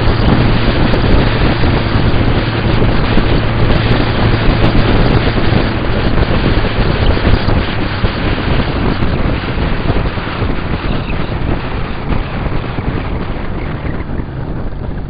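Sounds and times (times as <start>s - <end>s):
motorcycle engine drone: 0.0s - 15.0s
wind rushing over microphone: 0.0s - 15.0s.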